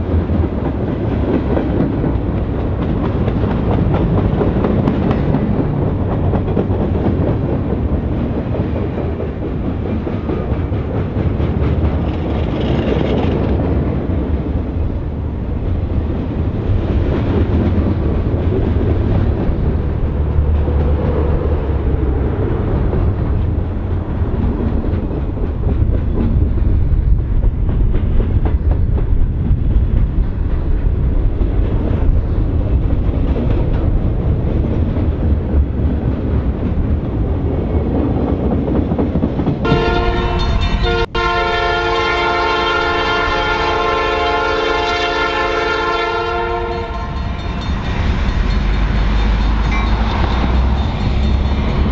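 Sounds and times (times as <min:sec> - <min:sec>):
wheels clicking over rail joints: 0:00.0 - 0:41.2, 0:46.4 - 0:51.9
freight train rumbling past: 0:00.0 - 0:51.9.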